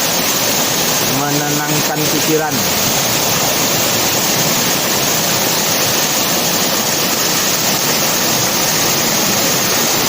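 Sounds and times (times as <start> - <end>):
waterfall and river rushing: 0.0 - 10.0.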